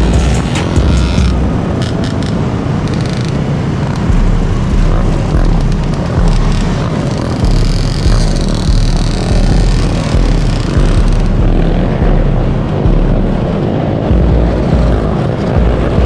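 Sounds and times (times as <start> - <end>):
dirt bike and atv engines rumbling: 0.0 - 16.0.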